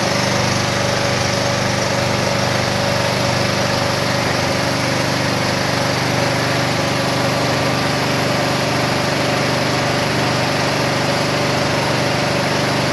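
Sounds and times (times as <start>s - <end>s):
portable generator running: 0.0s - 12.9s.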